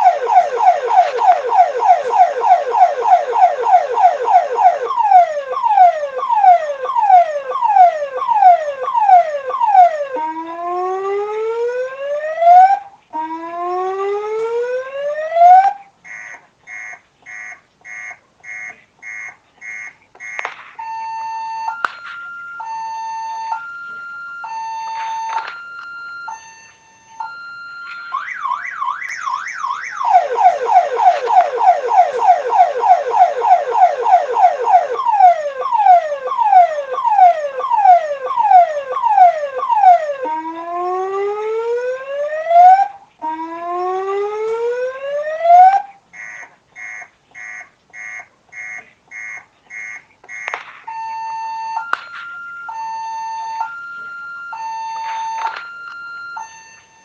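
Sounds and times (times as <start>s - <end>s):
electronic ambulance siren: 0.0s - 57.0s.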